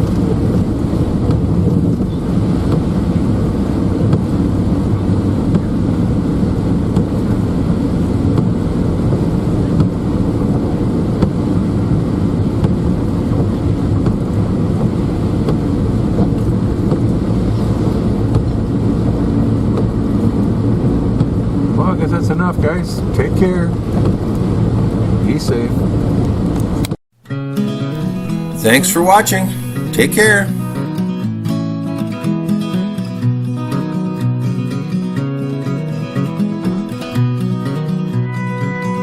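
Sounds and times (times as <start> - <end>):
vehicle engine and road noise: 0.0 - 39.0.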